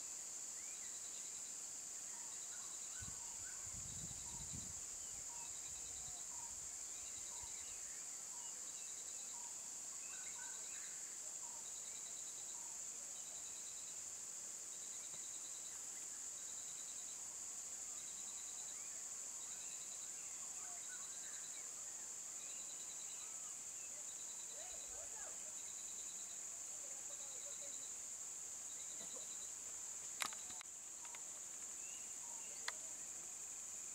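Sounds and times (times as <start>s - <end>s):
insect chirping trill: 0.0s - 33.9s
faint bird chirps: 0.6s - 14.0s, 18.0s - 33.0s.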